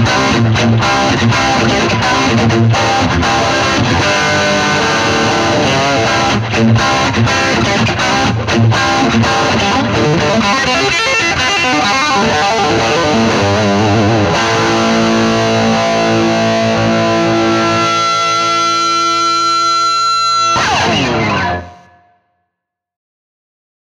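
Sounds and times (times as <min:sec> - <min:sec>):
distorted electric guitar: 0:00.0 - 0:22.2.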